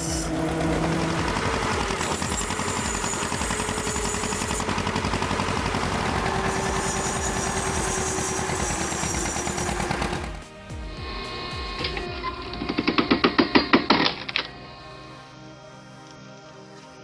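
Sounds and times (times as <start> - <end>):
machine engine pulsing: 0.0 - 15.0.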